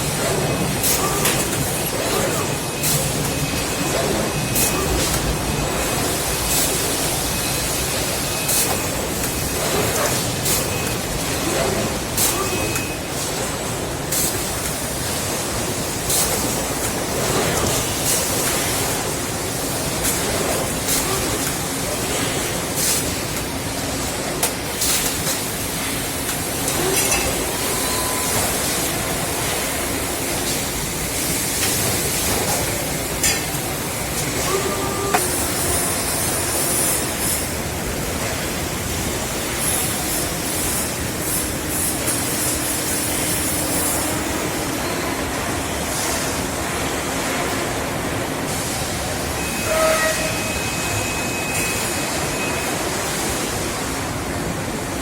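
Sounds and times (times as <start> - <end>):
factory machinery noise: 0.0 - 55.0.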